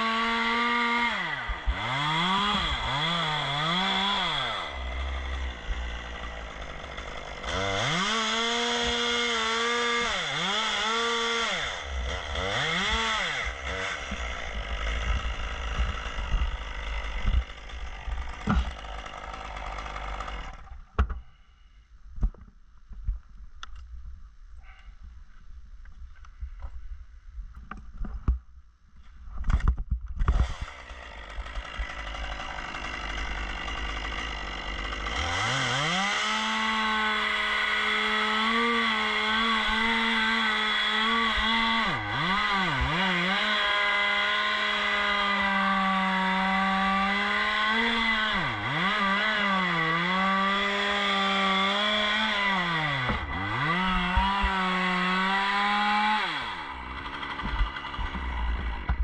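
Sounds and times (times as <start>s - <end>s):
chainsaw revving: 0.0s - 20.7s, 30.2s - 59.0s.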